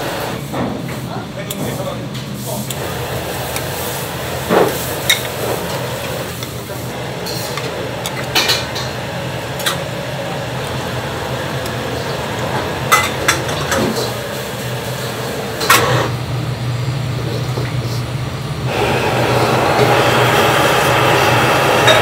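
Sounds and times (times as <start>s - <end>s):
low kitchen hum: 0.0s - 22.0s.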